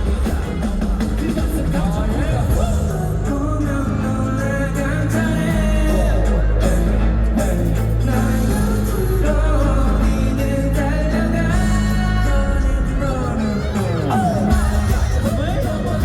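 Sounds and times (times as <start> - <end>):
heavy bass: 0.0 - 16.0
pop song with singing: 0.0 - 16.0.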